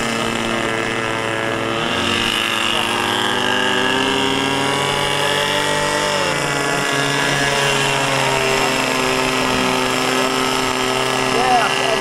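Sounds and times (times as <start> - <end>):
model airboat engine running: 0.0 - 12.0.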